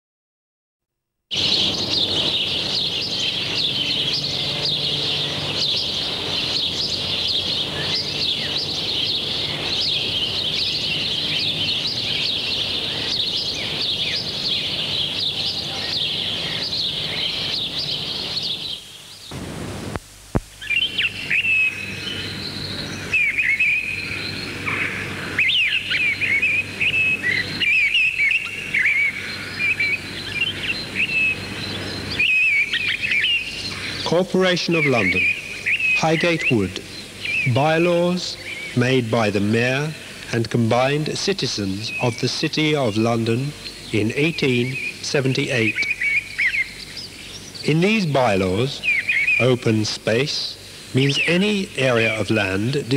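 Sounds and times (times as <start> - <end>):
birds chirping in chorus: 1.3 - 19.4, 20.6 - 52.9.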